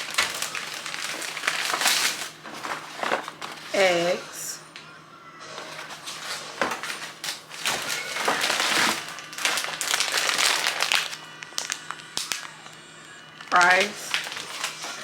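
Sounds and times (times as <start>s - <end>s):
grocery bags rustling: 0.0s - 4.6s, 5.4s - 15.0s.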